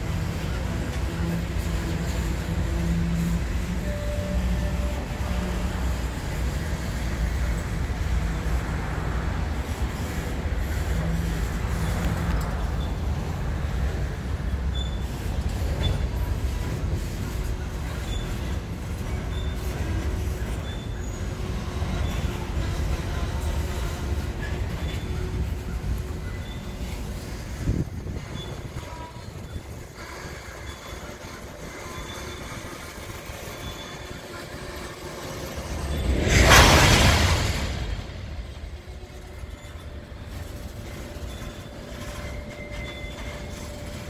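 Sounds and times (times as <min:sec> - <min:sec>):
freight train rumbling past: 0:00.0 - 0:44.0
wheels squealing: 0:00.0 - 0:44.0.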